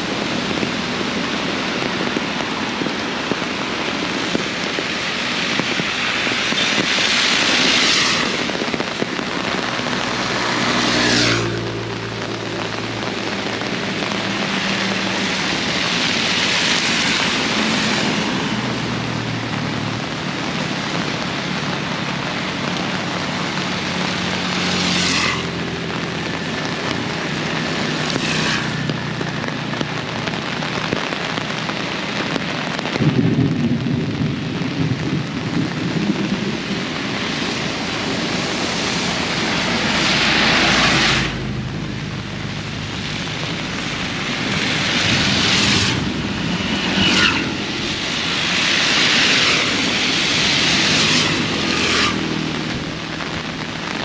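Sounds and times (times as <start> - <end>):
heavy rain falling: 0.0 - 54.0
vehicles swishing past on wet road: 0.0 - 54.0.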